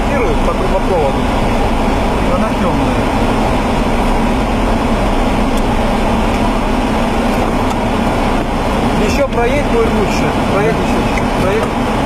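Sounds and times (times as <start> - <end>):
car engine hum: 0.0 - 12.0
tyre and road noise: 0.0 - 12.0.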